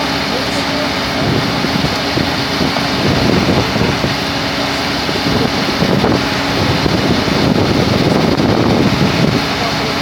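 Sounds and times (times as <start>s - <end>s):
wood chipper rumble: 0.0s - 10.0s.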